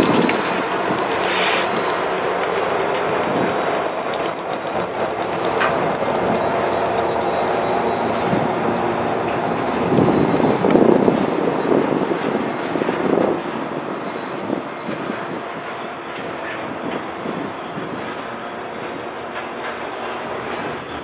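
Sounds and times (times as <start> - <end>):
diesel locomotives passing: 0.0 - 21.0
train wheels rumbling on rail: 0.0 - 21.0.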